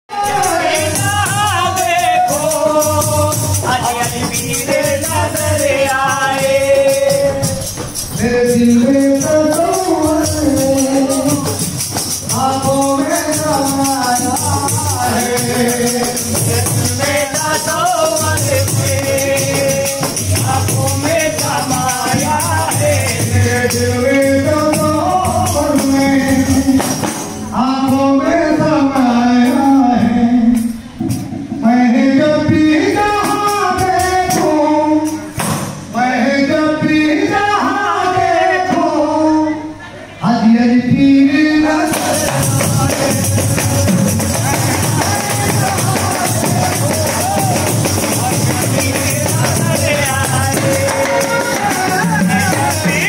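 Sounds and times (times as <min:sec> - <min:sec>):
frame drums beating: 0:00.1 - 0:36.2, 0:41.7 - 0:53.0
man singing devotional song: 0:00.1 - 0:53.0.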